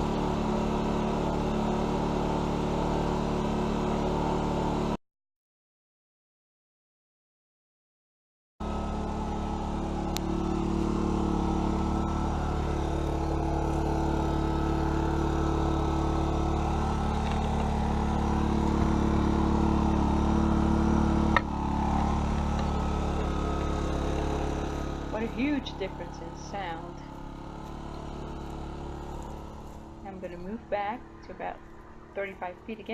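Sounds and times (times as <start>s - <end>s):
generator engine humming: 0.0s - 5.0s, 8.6s - 32.9s.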